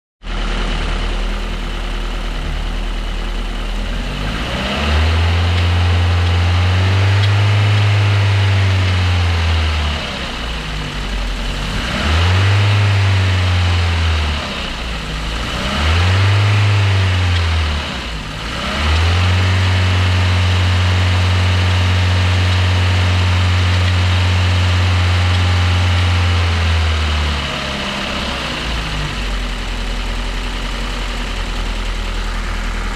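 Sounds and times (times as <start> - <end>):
car engine idling and revving: 0.2 - 32.9.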